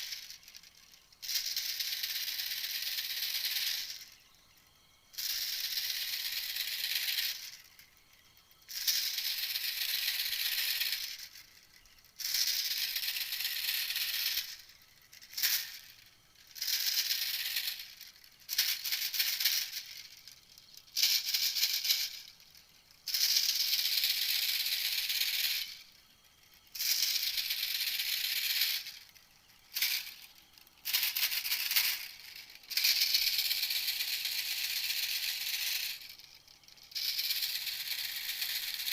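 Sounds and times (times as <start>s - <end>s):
small bird rattling chatter: 0.0s - 4.4s, 5.1s - 38.9s.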